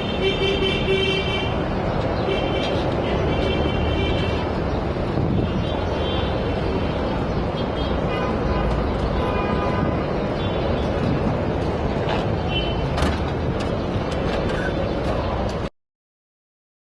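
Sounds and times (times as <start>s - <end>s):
road noise of passing cars: 0.0s - 15.7s.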